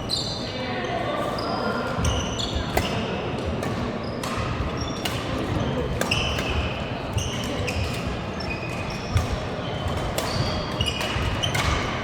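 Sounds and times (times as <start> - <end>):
sneaker squeaks on court floor: 0.0 - 12.0
racket hitting shuttlecock: 2.0 - 12.0.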